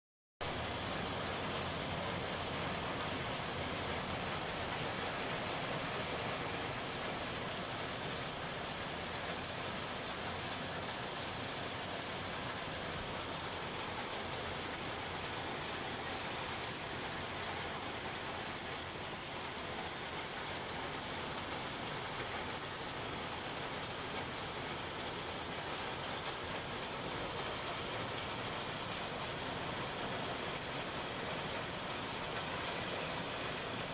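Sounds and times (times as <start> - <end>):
heavy rain on gravel: 0.4 - 33.9.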